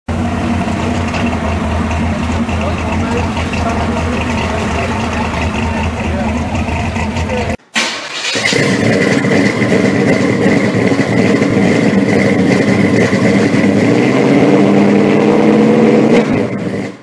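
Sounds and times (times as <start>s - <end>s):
car engine running: 0.1s - 7.6s, 8.3s - 17.0s.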